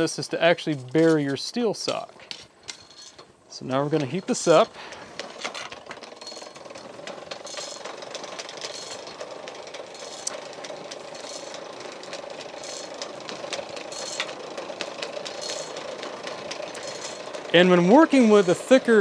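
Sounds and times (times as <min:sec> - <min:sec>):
gears rattling and clicking: 0:00.0 - 0:19.0
hand-cranked blower whirring: 0:00.0 - 0:19.0.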